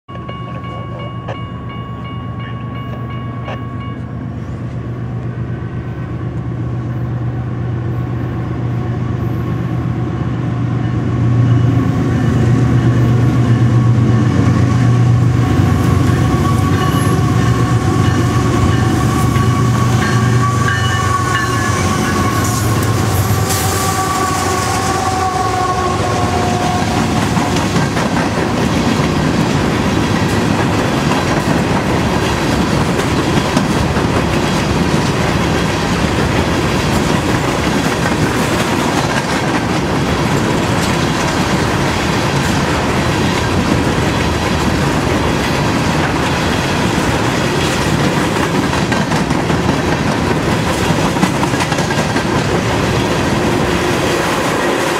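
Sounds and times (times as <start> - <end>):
diesel locomotive engine drone: 0.1 - 54.9
train wheels clattering on rails: 10.8 - 54.9.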